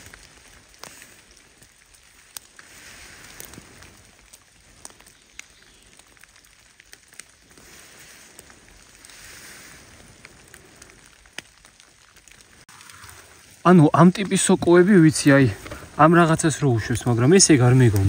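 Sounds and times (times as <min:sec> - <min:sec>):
rain hiss in forest: 0:00.0 - 0:18.0
ticks of raindrops: 0:00.0 - 0:18.0.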